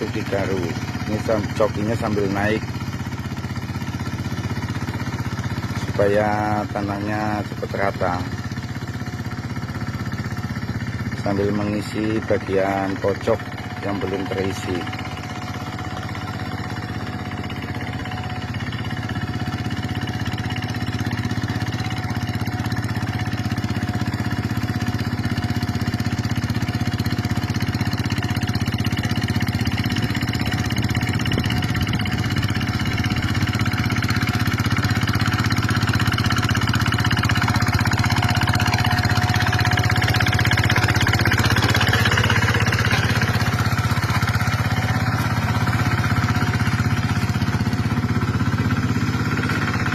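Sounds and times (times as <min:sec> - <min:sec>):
tractor engine running under load: 0:00.0 - 0:49.9.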